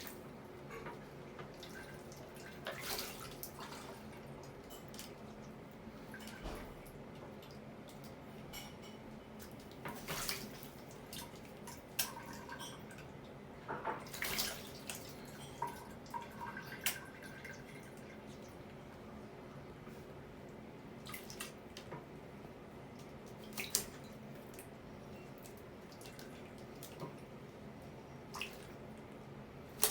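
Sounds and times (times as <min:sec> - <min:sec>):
water drips and patters: 0:00.0 - 0:19.1, 0:20.4 - 0:22.2, 0:22.8 - 0:29.9
parrot splashing water: 0:01.1 - 0:08.5, 0:09.4 - 0:13.4, 0:14.0 - 0:18.8, 0:20.9 - 0:21.9, 0:22.8 - 0:29.9.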